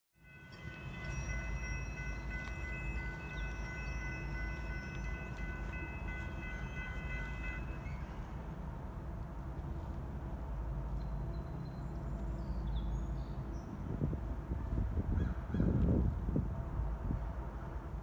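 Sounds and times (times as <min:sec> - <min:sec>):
diesel locomotives rumbling: 0:00.2 - 0:18.0.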